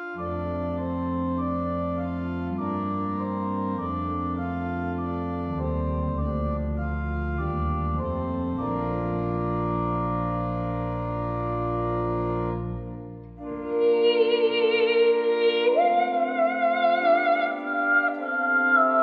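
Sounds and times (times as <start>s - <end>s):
organ playing held chords: 0.0s - 19.0s.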